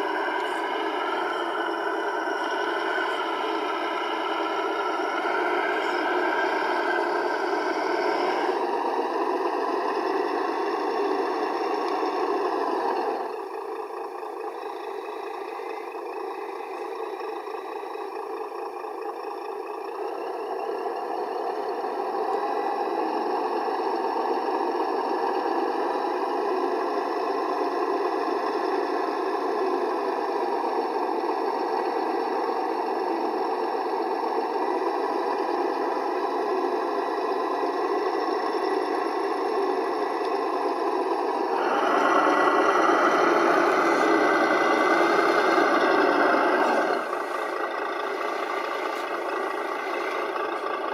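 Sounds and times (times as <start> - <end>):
diesel engine sound from speaker: 0.0 - 50.9.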